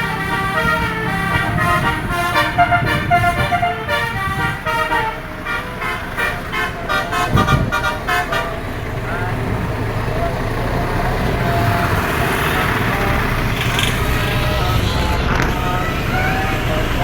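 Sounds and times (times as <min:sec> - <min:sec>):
multi-tone bus horn tune: 0:00.0 - 0:09.3, 0:11.5 - 0:17.0
vehicle engine rumble: 0:00.0 - 0:17.0.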